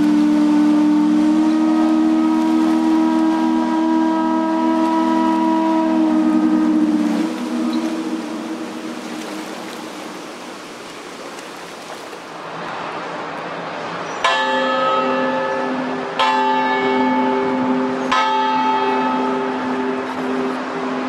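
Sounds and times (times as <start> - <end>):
steamboat bell ringing: 0.0 - 10.5, 14.2 - 21.0.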